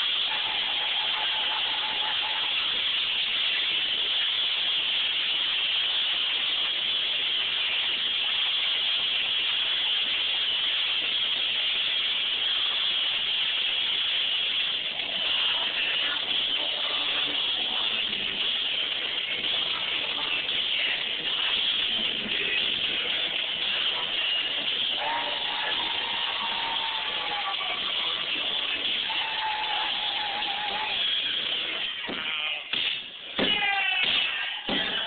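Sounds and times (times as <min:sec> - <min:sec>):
loud steady hissing: 0:00.0 - 0:35.0.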